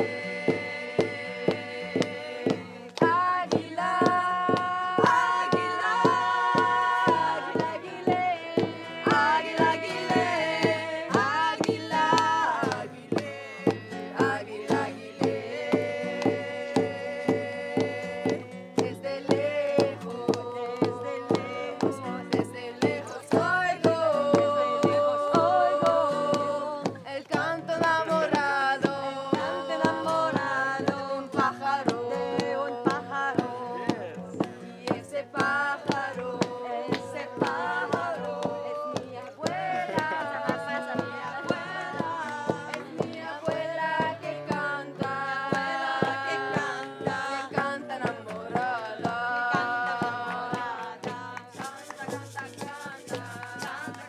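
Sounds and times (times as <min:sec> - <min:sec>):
frame drums beating: 0:00.0 - 0:27.0, 0:27.8 - 0:54.0
acoustic guitar: 0:00.0 - 0:54.0
group singing long held notes: 0:00.0 - 0:54.0.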